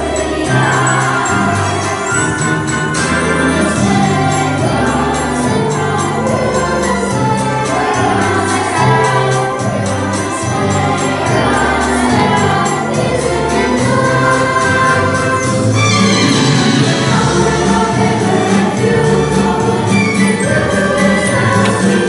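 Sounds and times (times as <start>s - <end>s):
children's choir singing: 0.0s - 22.0s
instrumental accompaniment: 0.0s - 22.0s.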